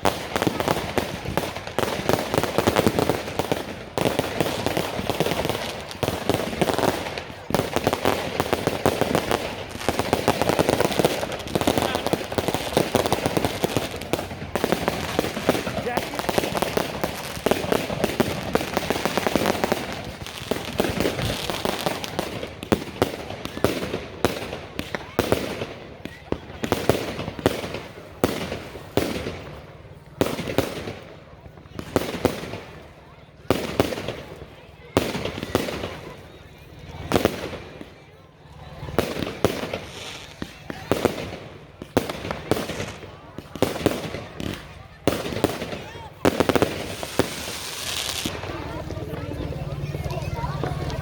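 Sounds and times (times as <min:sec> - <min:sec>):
loud single firework bangs: 0:00.0 - 0:31.1, 0:38.8 - 0:48.6
fireworks bangs and crackles: 0:00.0 - 0:51.0.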